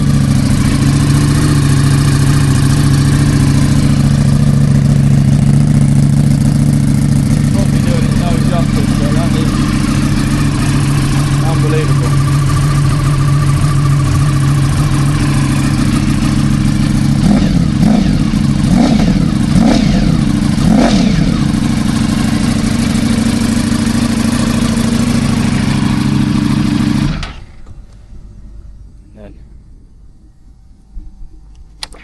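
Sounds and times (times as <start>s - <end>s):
motorcycle engine idling and revving: 0.0s - 30.4s.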